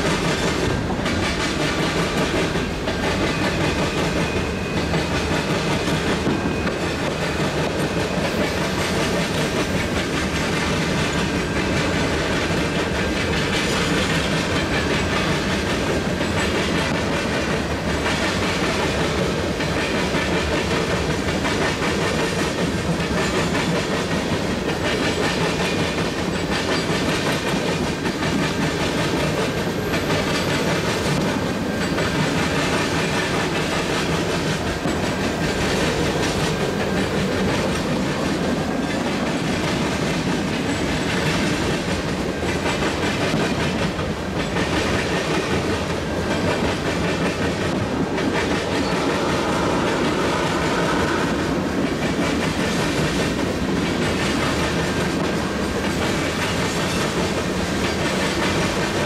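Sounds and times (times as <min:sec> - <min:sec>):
freight train rumbling and rattling: 0:00.0 - 0:59.0
wheels clicking over rail joints: 0:00.0 - 0:59.0.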